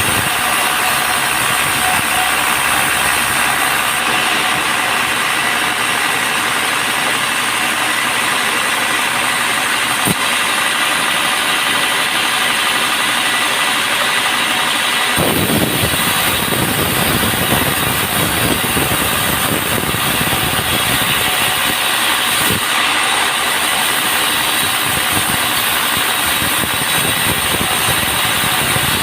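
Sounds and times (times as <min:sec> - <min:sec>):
bandsaw sawmill running: 0:00.0 - 0:29.0.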